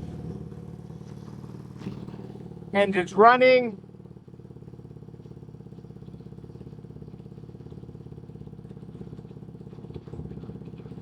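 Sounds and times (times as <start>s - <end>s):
motorbike engine idling: 0.0s - 10.8s.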